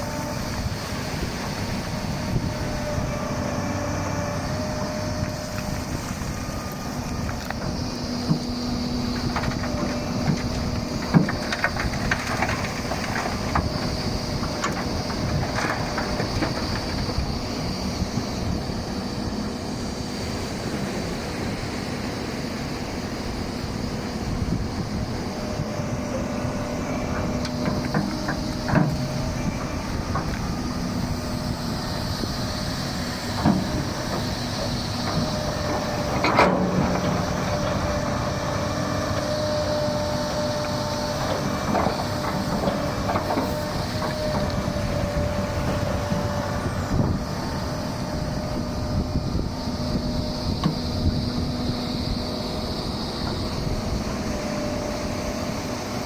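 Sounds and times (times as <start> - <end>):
excavator running: 0.0 - 56.0.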